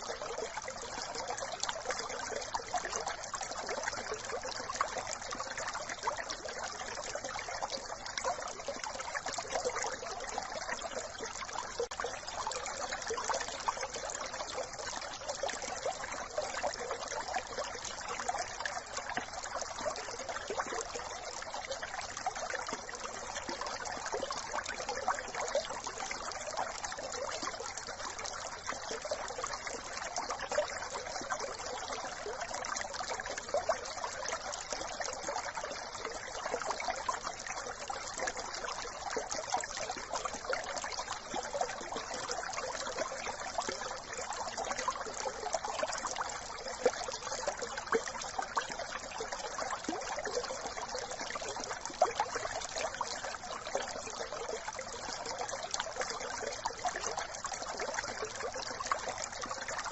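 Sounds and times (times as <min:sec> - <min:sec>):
brook trickling and babbling: 0:00.0 - 0:59.9.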